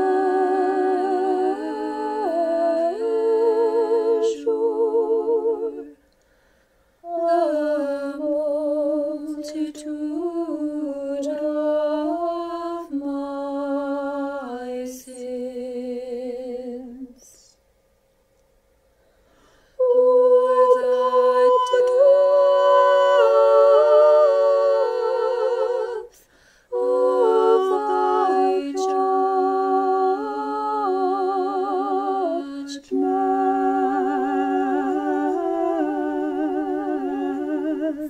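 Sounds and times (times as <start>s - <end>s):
choir singing chant: 0.0s - 6.0s, 7.0s - 17.2s, 19.8s - 38.0s.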